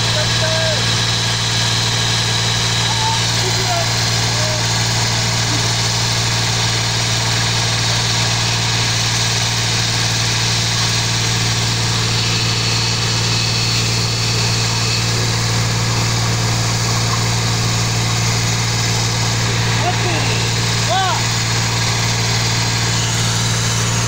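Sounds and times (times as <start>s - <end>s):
tractor engine droning: 0.0s - 24.0s.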